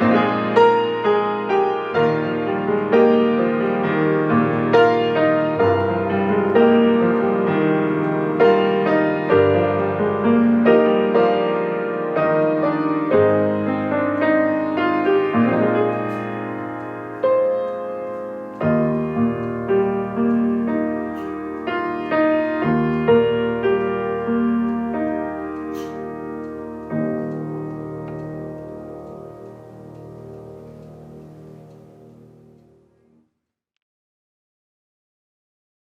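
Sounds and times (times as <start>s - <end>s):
slow solo piano piece: 0.0s - 33.2s.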